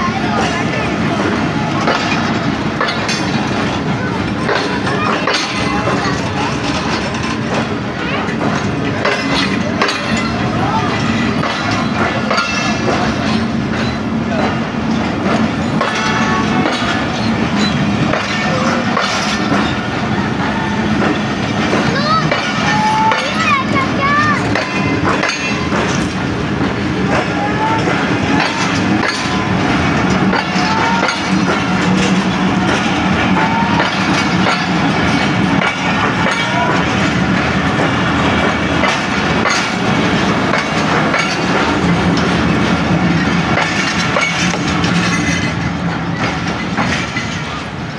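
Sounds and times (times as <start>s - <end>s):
train low rumble: 0.0s - 47.9s
train wheels clattering over joints: 0.0s - 47.9s.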